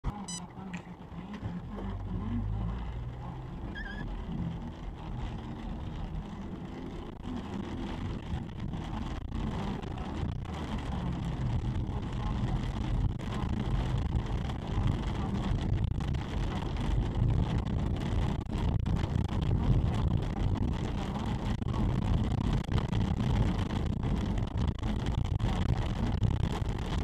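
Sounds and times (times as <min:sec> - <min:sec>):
car engine and tyre drone: 0:00.0 - 0:27.0
rain hitting windscreen: 0:00.1 - 0:27.0.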